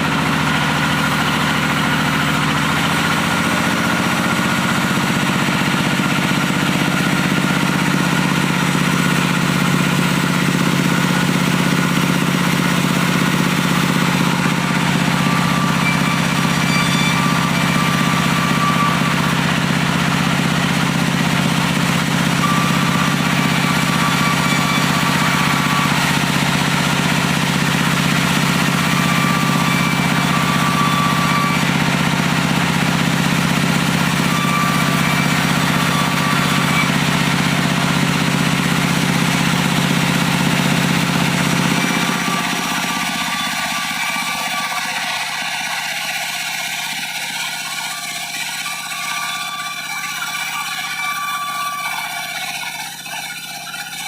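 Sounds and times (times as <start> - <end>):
diesel engine running: 0.0 - 54.0
sawmill noise: 0.0 - 54.0.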